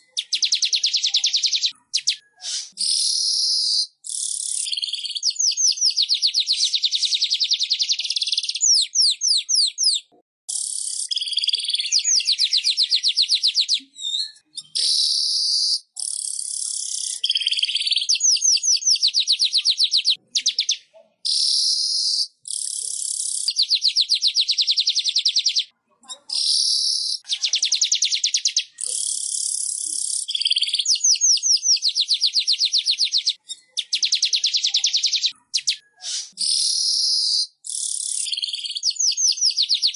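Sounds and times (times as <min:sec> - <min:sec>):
weaver bird song with buzzy trills: 0:00.0 - 0:25.7, 0:26.4 - 0:39.9.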